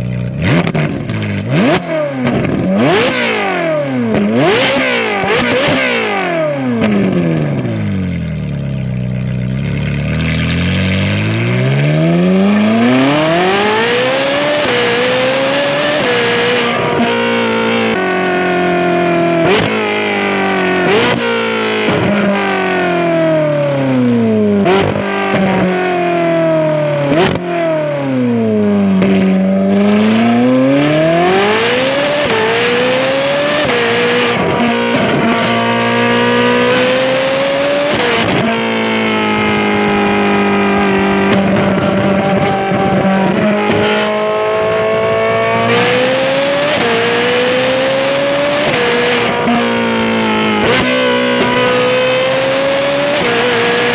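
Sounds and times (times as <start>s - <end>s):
sports car engine revving: 0.0s - 53.9s.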